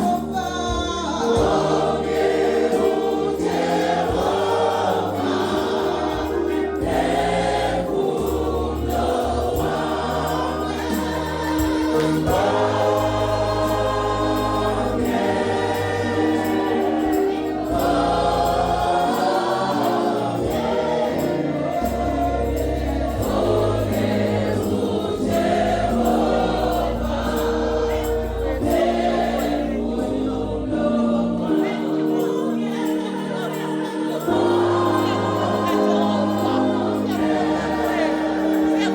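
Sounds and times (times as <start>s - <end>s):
instrumental accompaniment with bass: 0.0s - 33.1s
choir singing gospel: 0.0s - 38.9s.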